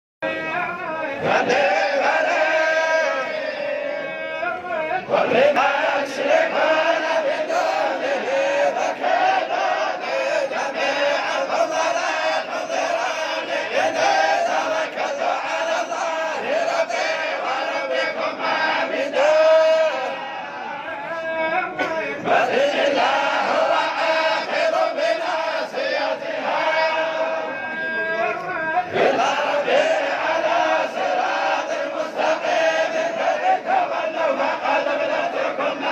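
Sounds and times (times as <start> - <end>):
men chanting together: 1.1 - 4.2, 5.0 - 20.9, 21.8 - 27.7, 28.8 - 35.9.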